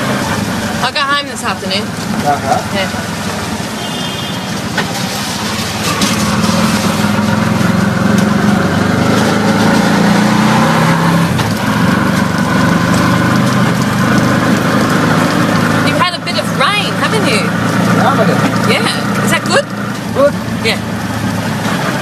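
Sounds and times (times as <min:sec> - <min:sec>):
auto-rickshaw engine running: 0:00.0 - 0:22.0.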